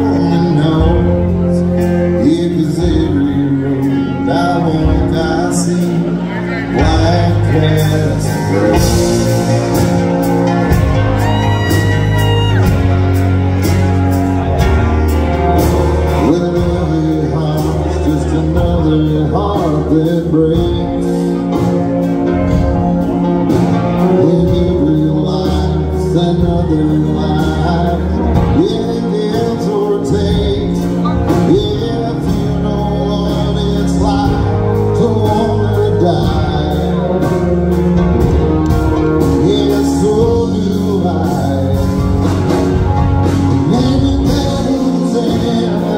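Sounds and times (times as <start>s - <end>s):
bass guitar: 0.0s - 45.9s
live country band: 0.0s - 45.9s
piano: 0.0s - 45.9s.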